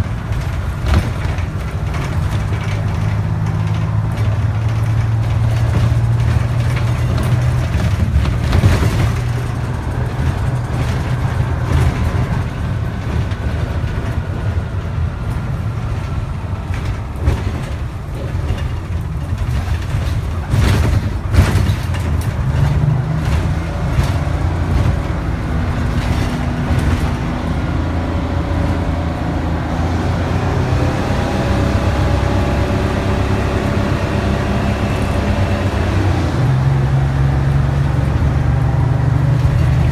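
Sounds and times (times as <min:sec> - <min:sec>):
bus diesel engine whining: 0:00.0 - 0:39.9.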